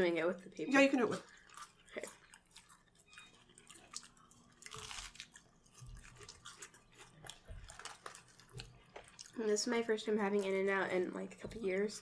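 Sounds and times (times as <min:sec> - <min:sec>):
chewing and crunching food: 0:00.4 - 0:12.0.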